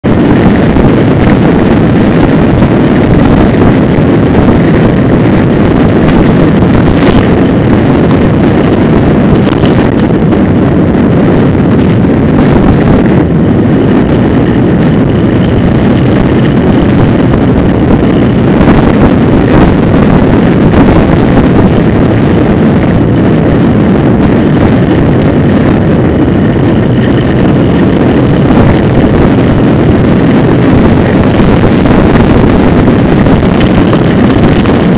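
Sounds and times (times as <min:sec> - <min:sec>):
road rumble: 0:00.0 - 0:34.9
wind buffeting microphone: 0:00.0 - 0:34.9.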